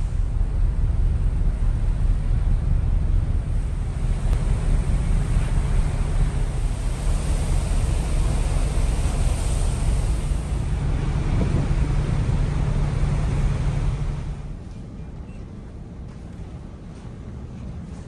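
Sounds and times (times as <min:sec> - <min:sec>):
wind on microphone: 0:00.0 - 0:15.6
ferry engine low rumble: 0:00.0 - 0:18.0
sea: 0:00.0 - 0:18.0.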